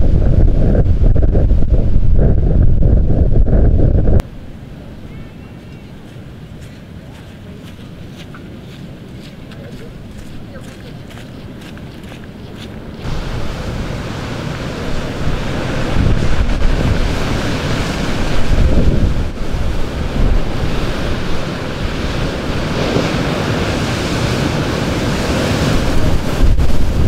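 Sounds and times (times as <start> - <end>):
wind buffeting microphone: 0.0 - 4.3, 5.1 - 27.0
ocean surf breaking: 0.0 - 27.0.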